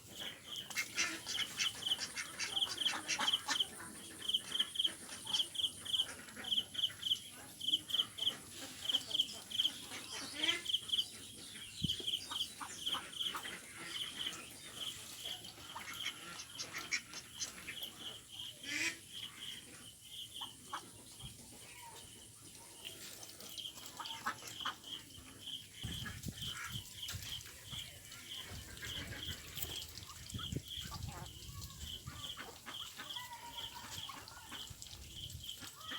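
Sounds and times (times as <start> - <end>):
ducks quacking: 0.0 - 22.0, 23.4 - 34.9.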